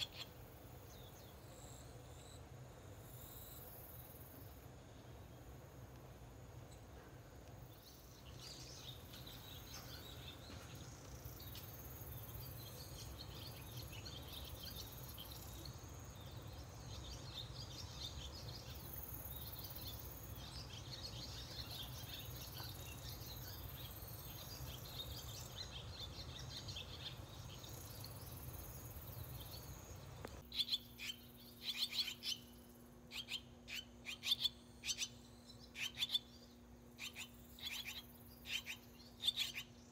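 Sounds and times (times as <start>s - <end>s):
swallows chirping: 0.0s - 3.6s, 7.7s - 39.9s
low steady hum: 0.0s - 39.9s.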